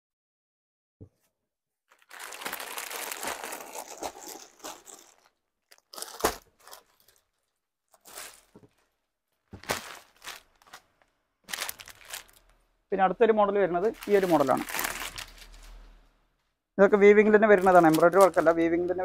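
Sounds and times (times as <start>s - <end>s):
fabric rustling and crinkling: 1.9s - 12.7s, 13.8s - 16.6s, 17.2s - 19.0s.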